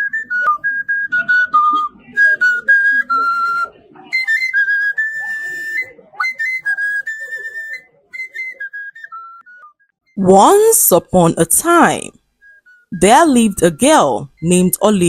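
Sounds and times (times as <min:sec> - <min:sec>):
whistle-like melody: 0:00.0 - 0:10.2, 0:12.4 - 0:14.8.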